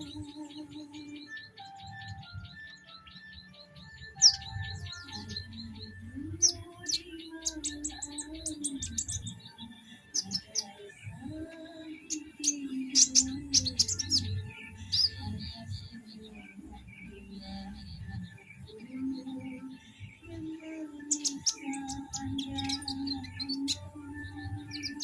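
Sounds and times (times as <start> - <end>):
music playing: 0.0 - 25.0
sunbird chirping and trilling: 0.0 - 25.0.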